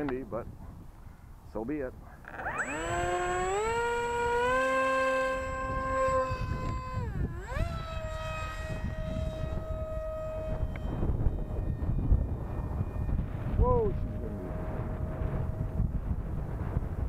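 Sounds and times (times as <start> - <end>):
wind rumble on microphone: 0.0 - 17.0
model jet motor whining: 2.2 - 17.0.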